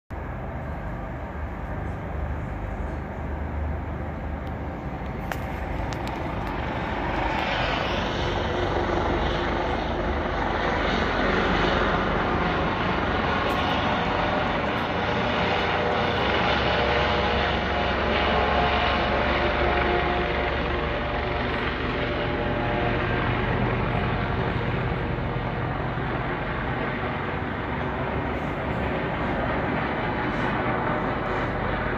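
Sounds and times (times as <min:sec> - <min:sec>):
helicopter flying overhead: 0:00.1 - 0:31.9.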